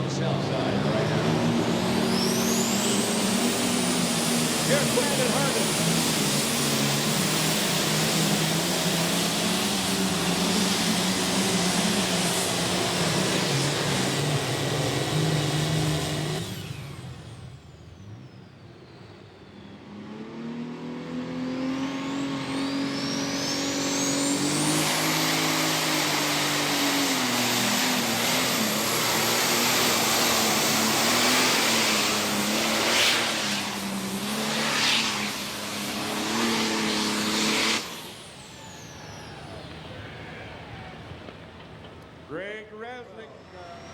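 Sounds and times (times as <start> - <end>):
high turbo whine: 0.0 - 43.9
tractor engine at high revs: 0.0 - 43.9.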